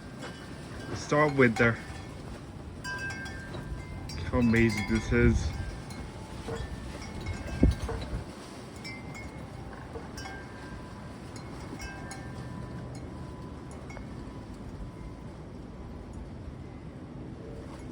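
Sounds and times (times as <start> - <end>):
low rumble of wind: 0.0 - 17.9
wind chimes tinkling: 0.2 - 15.4.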